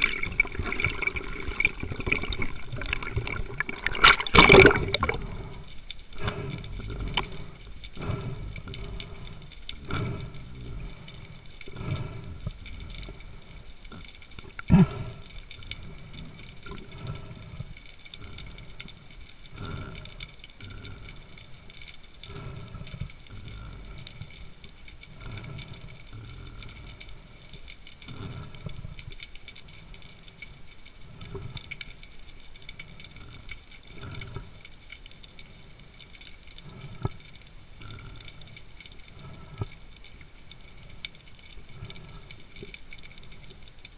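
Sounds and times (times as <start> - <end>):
underwater water swishes: 0.0 - 43.9.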